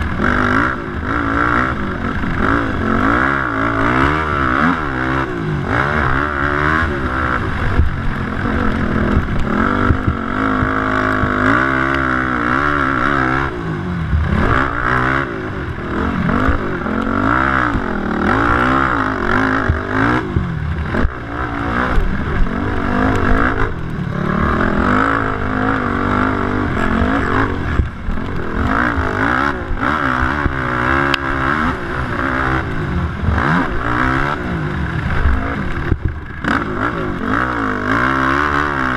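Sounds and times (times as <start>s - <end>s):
quad engines revving: 0.0s - 38.9s.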